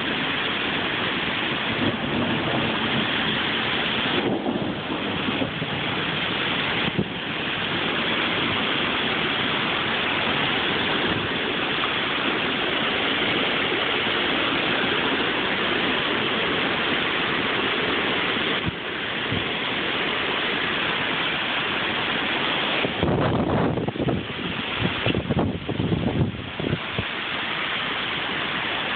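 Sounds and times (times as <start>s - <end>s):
heavy rain in strong wind: 0.0s - 28.9s.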